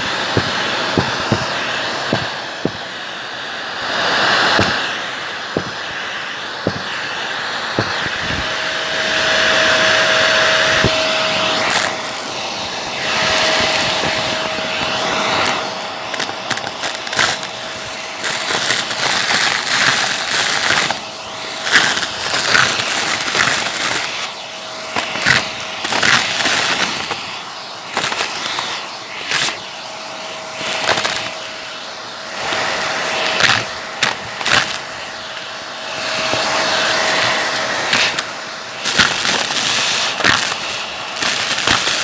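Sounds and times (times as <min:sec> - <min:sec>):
debris crackling in nozzle: 0:00.0 - 0:29.7, 0:30.5 - 0:31.6, 0:32.4 - 0:35.2, 0:35.9 - 0:42.0
vacuum cleaner motor whine: 0:00.0 - 0:42.0.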